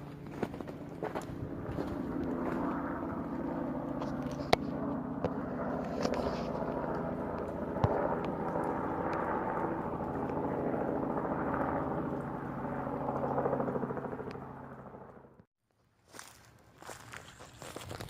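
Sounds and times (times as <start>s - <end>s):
engine running: 0.0s - 15.5s.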